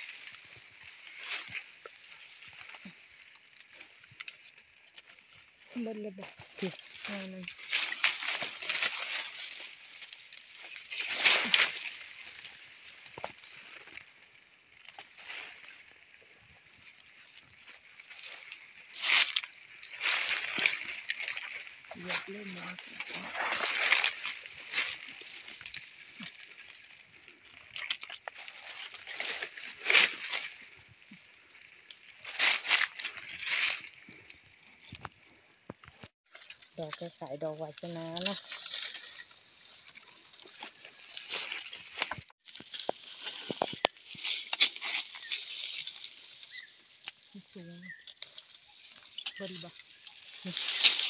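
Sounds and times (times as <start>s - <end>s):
leaves and branches rustling: 0.0s - 51.0s.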